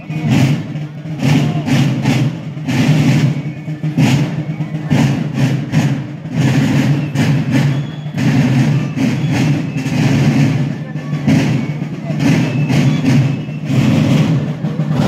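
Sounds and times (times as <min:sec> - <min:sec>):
low drum roll: 0:00.0 - 0:15.0
marching drums beating: 0:00.0 - 0:15.0.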